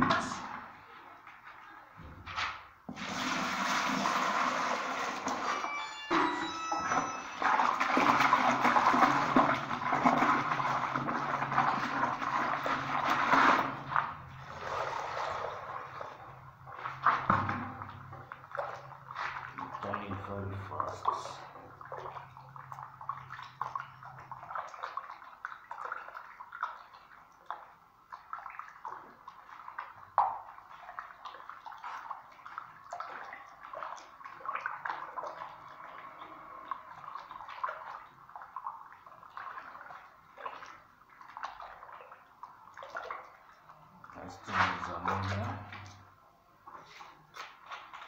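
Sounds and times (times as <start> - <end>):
sloshing in plastic bucket: 0.0 - 5.6, 6.8 - 36.0, 36.8 - 46.0.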